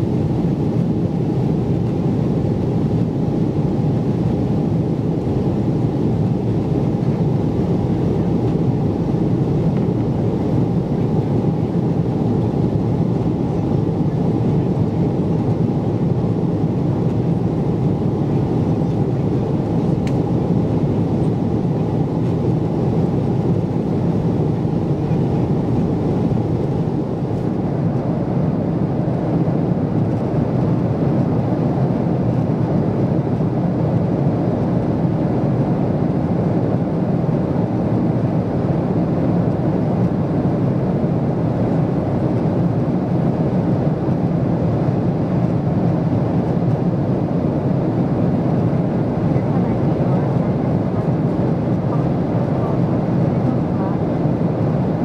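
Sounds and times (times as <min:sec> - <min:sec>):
jet airliner cabin rumble: 0:00.0 - 0:55.0.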